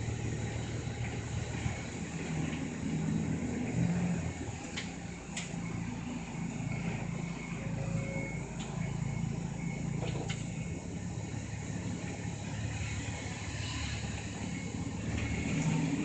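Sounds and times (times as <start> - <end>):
bus engine and road hum: 0.0 - 16.0.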